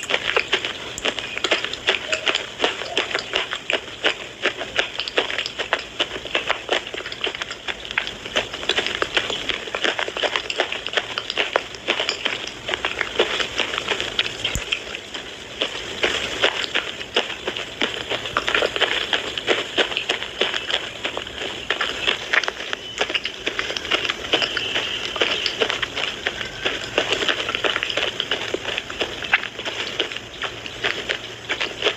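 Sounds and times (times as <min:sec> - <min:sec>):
chewing crunchy pencils: 0:00.0 - 0:31.9.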